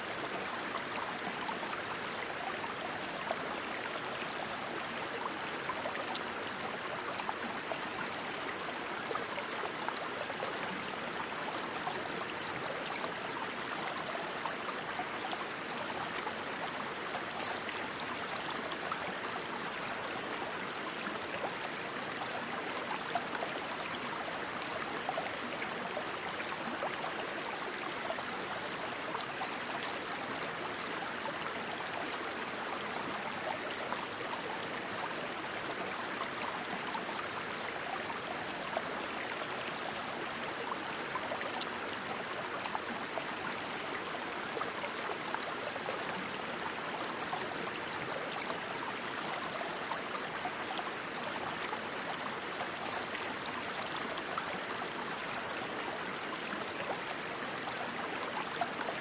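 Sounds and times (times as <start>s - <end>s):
rushing stream water: 0.0s - 59.0s.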